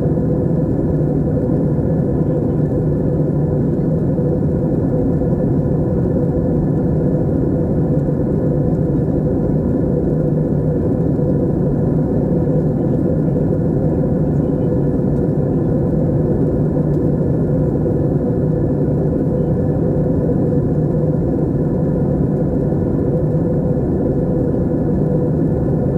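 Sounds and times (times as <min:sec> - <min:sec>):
airliner cabin drone: 0:00.0 - 0:25.9.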